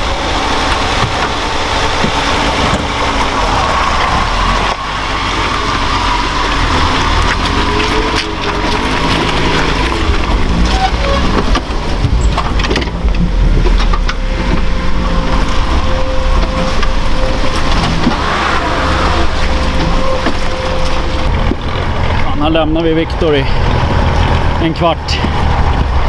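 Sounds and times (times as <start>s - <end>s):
knocks and clunks: 0.0s - 26.0s
off-road truck engine revving: 0.0s - 26.0s.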